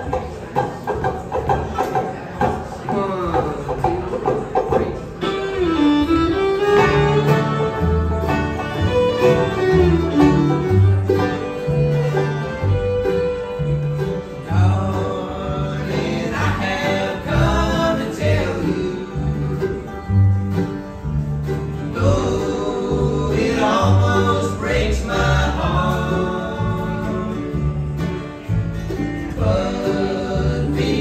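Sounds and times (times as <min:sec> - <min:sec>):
banjo picking: 0:00.0 - 0:31.0
bluegrass band playing: 0:00.0 - 0:31.0
bass line: 0:05.2 - 0:31.0.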